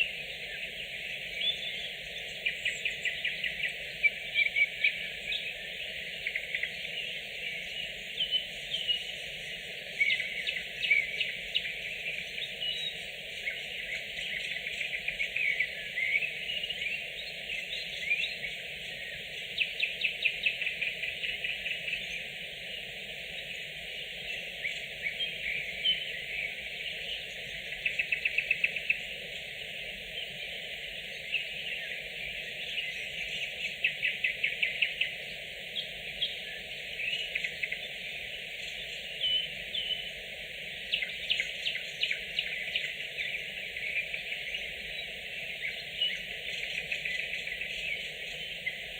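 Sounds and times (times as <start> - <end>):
nightingales singing: 0.0 - 48.9.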